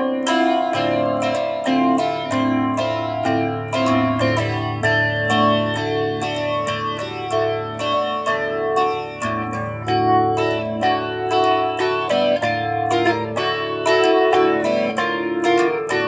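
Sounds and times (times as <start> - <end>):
guitar picking melody: 0.0 - 16.0.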